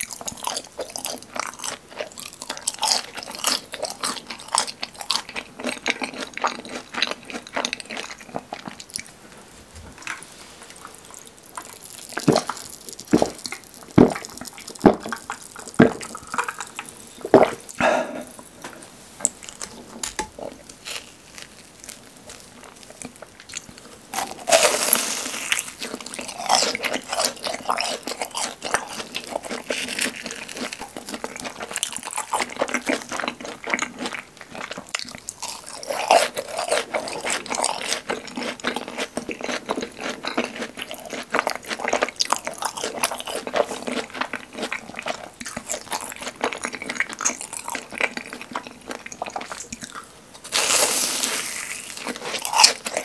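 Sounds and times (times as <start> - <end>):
wet crackly chewing: 0.0 - 53.0.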